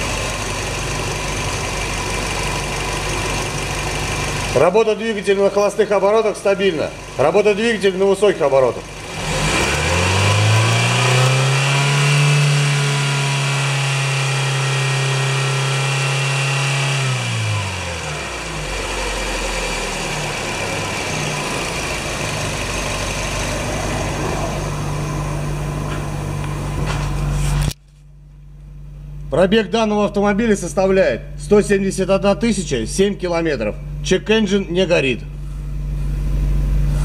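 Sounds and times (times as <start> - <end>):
car engine revving and idling: 0.0 - 27.8, 34.9 - 37.0.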